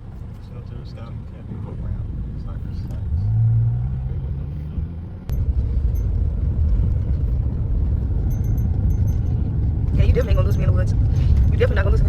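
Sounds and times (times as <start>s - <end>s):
car road noise hum: 0.0s - 12.0s
rough low rumble: 1.4s - 12.0s.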